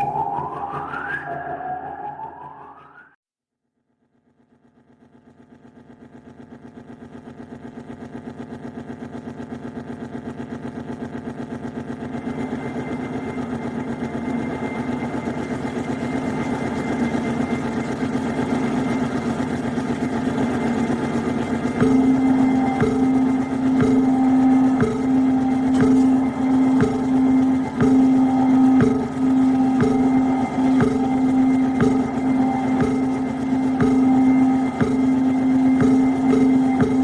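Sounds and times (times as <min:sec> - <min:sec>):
harsh electronic noise music: 0:00.0 - 0:03.2, 0:04.7 - 0:37.0.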